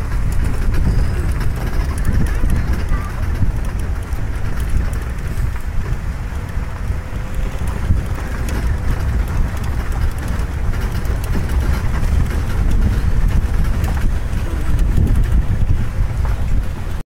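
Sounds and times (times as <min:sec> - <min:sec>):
vehicle engine and tyres rumbling: 0:00.0 - 0:17.0
wind buffeting microphone: 0:00.0 - 0:17.0.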